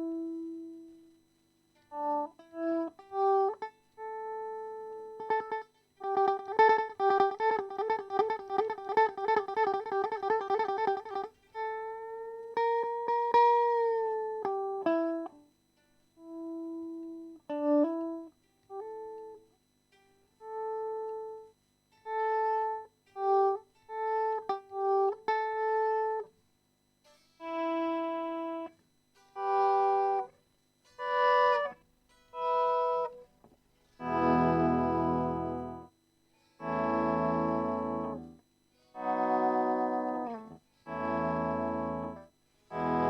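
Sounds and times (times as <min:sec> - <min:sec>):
electric guitar melody: 0:00.0 - 0:01.0, 0:01.8 - 0:15.5, 0:16.2 - 0:19.5, 0:20.3 - 0:26.3, 0:27.4 - 0:30.3, 0:30.9 - 0:33.3, 0:34.0 - 0:36.0, 0:36.6 - 0:38.4, 0:39.0 - 0:43.0.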